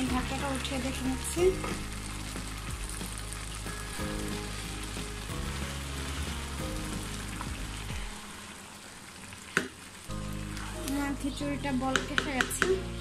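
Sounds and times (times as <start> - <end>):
soft background music: 0.0 - 8.7, 10.0 - 13.0
food sizzling and bubbling in pot: 0.0 - 13.0.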